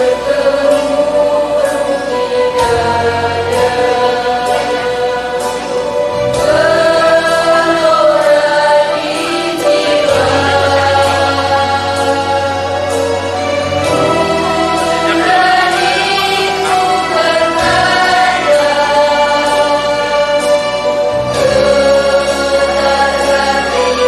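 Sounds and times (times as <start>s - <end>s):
choir singing: 0.0s - 24.0s
instrumental accompaniment with bass: 0.0s - 24.0s.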